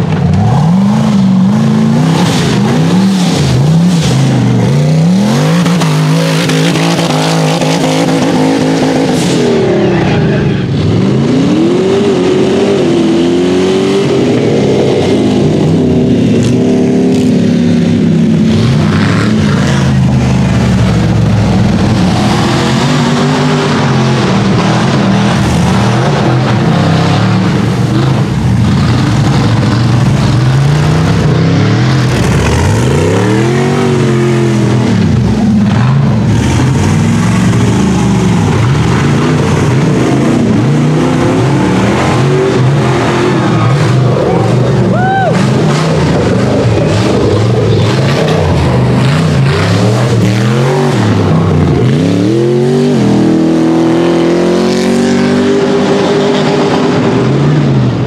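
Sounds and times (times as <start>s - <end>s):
buggy engine revving hard: 0.0s - 58.0s.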